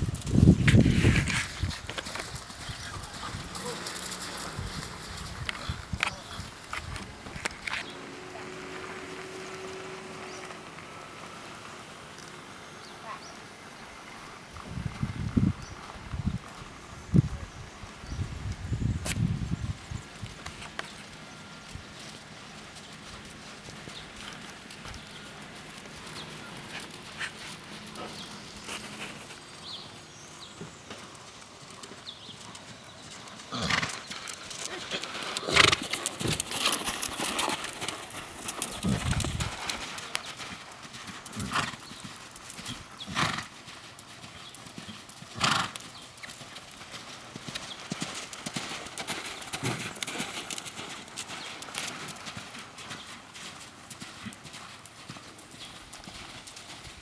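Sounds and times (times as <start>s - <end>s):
hoofbeats on sand: 0.0s - 11.7s, 19.0s - 57.0s.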